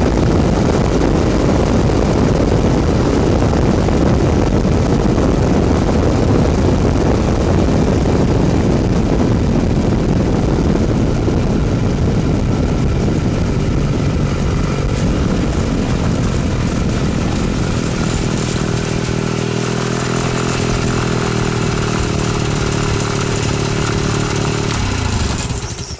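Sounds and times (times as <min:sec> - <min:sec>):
rushing wind: 0:00.0 - 0:25.9
small aircraft engine and propeller: 0:00.0 - 0:25.9.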